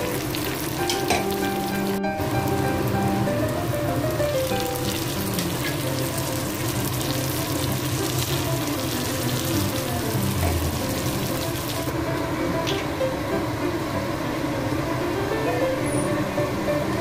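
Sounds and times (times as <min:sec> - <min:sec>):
oil sizzling: 0:00.0 - 0:14.8
background music: 0:00.0 - 0:17.0.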